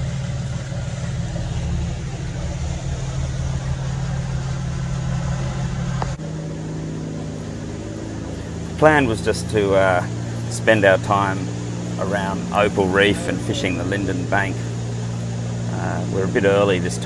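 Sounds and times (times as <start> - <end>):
boat diesel engines droning: 0.0 - 17.0.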